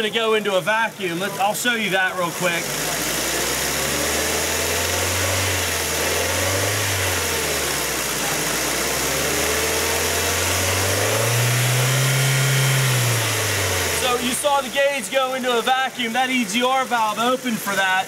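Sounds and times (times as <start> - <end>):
car engine revving: 0.9 - 18.0.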